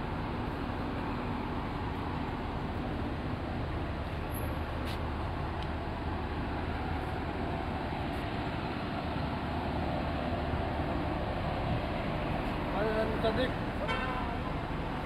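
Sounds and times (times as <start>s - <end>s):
low rush of traffic: 0.0s - 15.0s.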